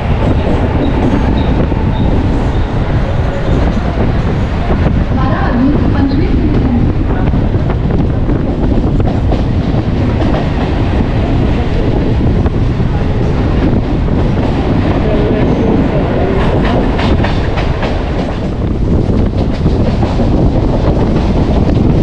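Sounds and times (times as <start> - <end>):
clickety-clack of rail joints: 0.0 - 22.0
train wheels rumbling on rails: 0.0 - 22.0.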